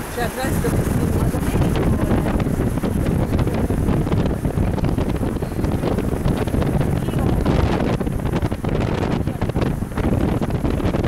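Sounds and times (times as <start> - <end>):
vehicle road noise: 0.0 - 11.0
wind buffeting microphone: 0.0 - 11.0.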